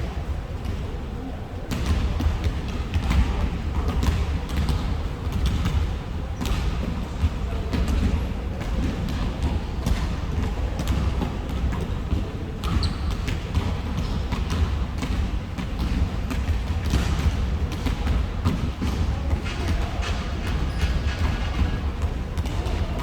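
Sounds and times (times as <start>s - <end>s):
basketballs bouncing on gym floor: 1.7s - 23.0s.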